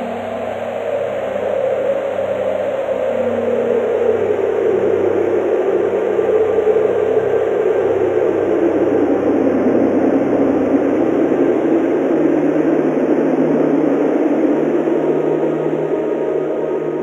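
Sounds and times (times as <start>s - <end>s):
soft sustained music tones: 0.0s - 17.0s
strong wind rushing: 0.8s - 17.0s.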